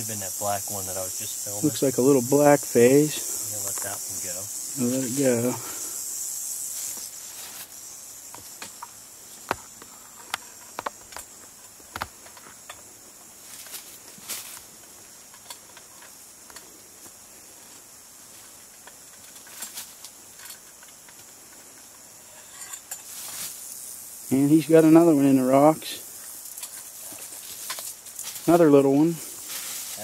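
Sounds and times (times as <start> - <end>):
faint high-pitched buzz: 0.0 - 30.0.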